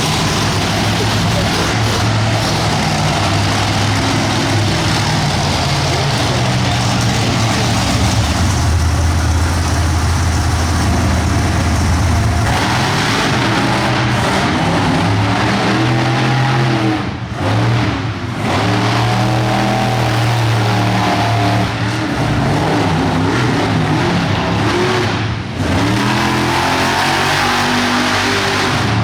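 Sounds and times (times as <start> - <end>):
monster truck engine running: 0.0 - 29.0.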